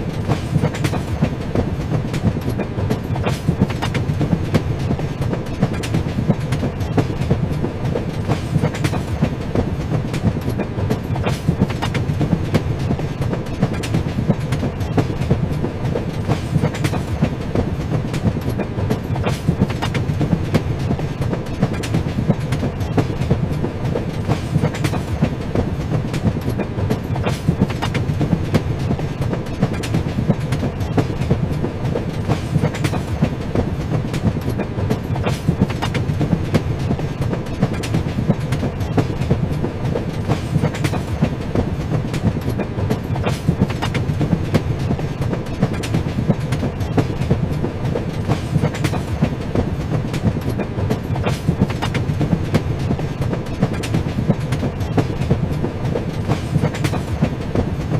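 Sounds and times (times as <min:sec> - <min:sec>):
train wheels rumbling on track: 0:00.0 - 0:57.9
wheels clicking over rail joints: 0:00.0 - 0:57.9.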